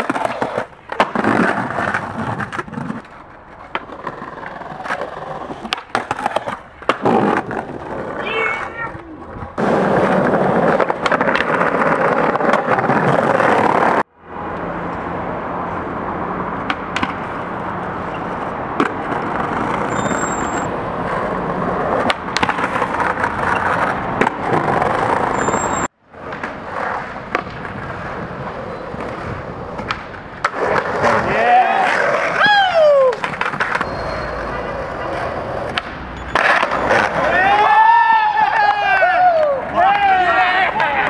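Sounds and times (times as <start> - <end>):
skateboard clacks: 0.0 - 14.0, 16.6 - 20.2, 21.0 - 41.0
skateboard wheels rolling: 0.0 - 41.0.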